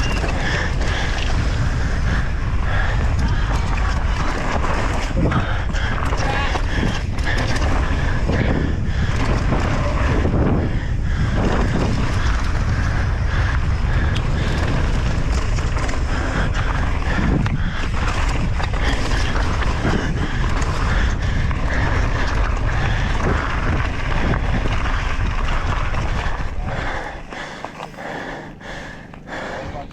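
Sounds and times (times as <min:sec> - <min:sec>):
mountain bike rattling on dirt: 0:00.0 - 0:29.9
wind buffeting microphone: 0:00.0 - 0:29.9.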